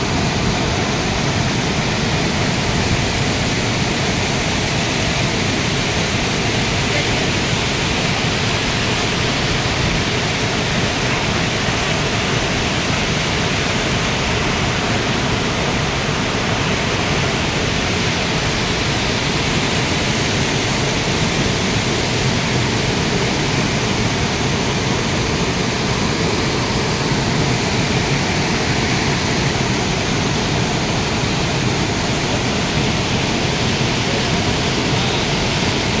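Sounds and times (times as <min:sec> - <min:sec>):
water rushing over rocks: 0:00.0 - 0:36.0.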